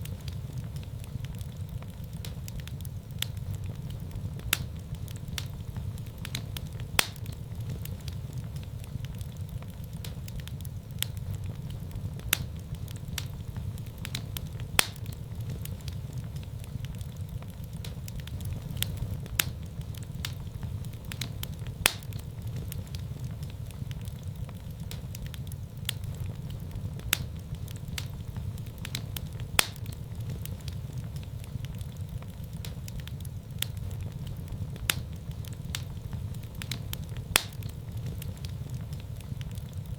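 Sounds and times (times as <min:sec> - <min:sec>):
fire crackling and popping: 0:00.0 - 0:39.9
fire flames rumbling: 0:00.0 - 0:39.9.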